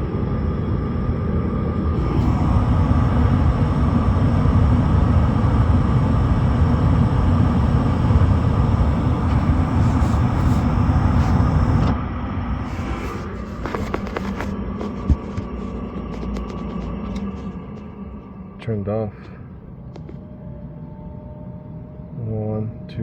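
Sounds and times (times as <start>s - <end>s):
gas furnace rumbling: 0.0s - 20.2s.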